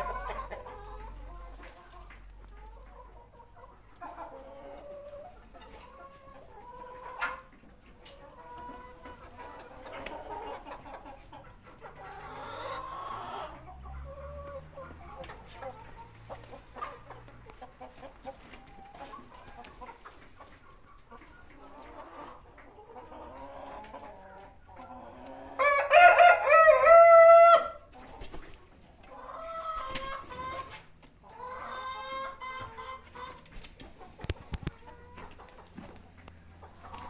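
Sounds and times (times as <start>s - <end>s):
chickens clucking softly: 0.0s - 37.0s.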